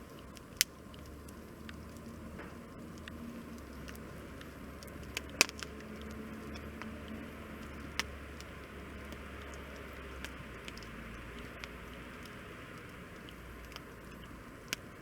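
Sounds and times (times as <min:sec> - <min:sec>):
firewood crackling: 0:00.0 - 0:15.0
low steady rumble: 0:00.0 - 0:15.0
sharp fire pops: 0:00.2 - 0:15.0.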